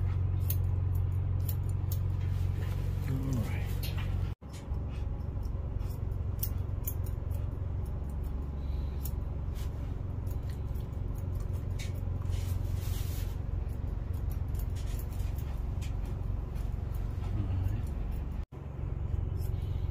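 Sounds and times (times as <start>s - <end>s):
steady low hum: 0.0s - 19.9s
scissors snipping hair: 0.3s - 2.2s, 3.1s - 18.5s.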